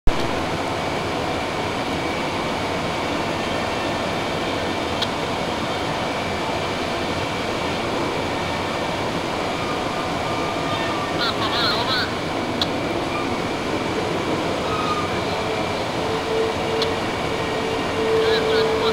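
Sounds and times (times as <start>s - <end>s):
train coaches humming: 0.1s - 18.9s.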